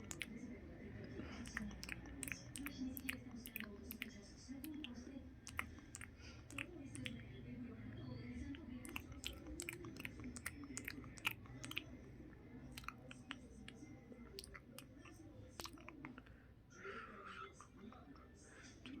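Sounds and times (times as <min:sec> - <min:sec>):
close chewing and mouth clicks: 0:00.0 - 0:16.3
low steady hum: 0:00.0 - 0:19.0.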